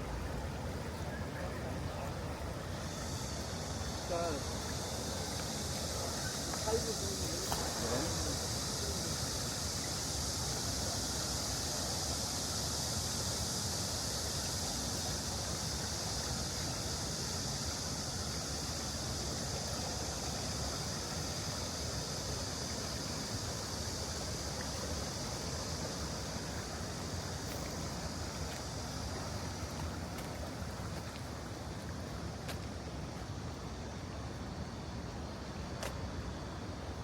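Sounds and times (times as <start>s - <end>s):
stream water running over stones: 0.0s - 37.0s.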